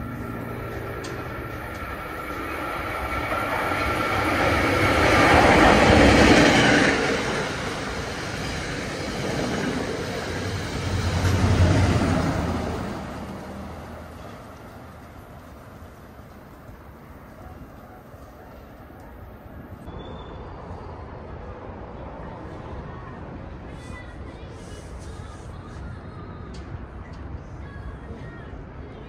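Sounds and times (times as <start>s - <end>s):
train rumbling past: 0.0s - 26.4s.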